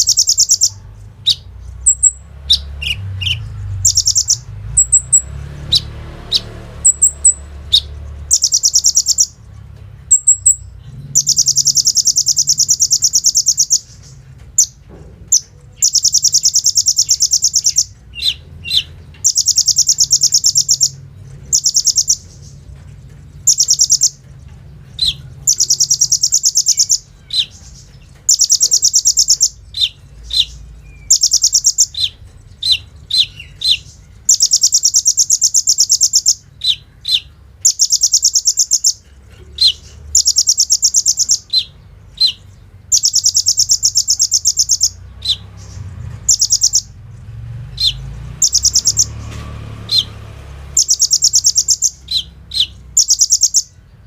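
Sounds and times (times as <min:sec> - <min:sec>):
bird rattling trills: 0:00.0 - 0:09.4, 0:10.1 - 0:47.0, 0:47.8 - 0:53.7
high bird chirps: 0:00.0 - 0:54.0.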